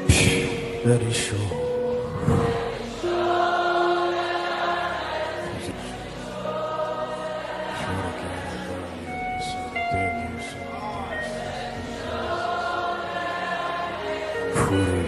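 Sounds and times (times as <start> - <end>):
slow choir-like worship music: 0.0 - 15.0.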